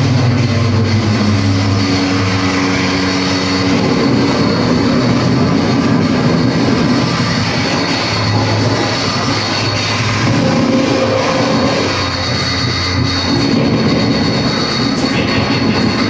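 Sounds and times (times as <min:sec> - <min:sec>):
dense distorted noise music: 0:00.0 - 0:16.0
low droning tones: 0:00.0 - 0:16.0.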